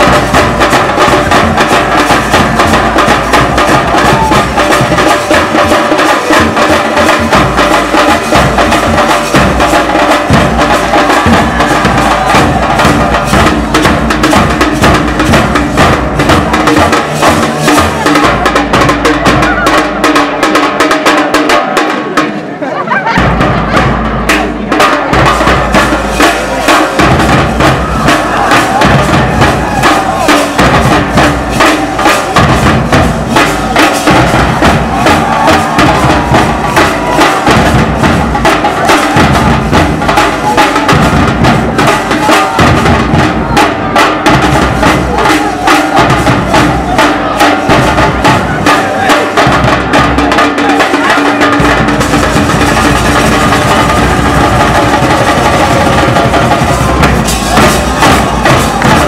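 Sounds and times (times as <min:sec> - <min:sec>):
festival drums beating: 0:00.0 - 0:59.0.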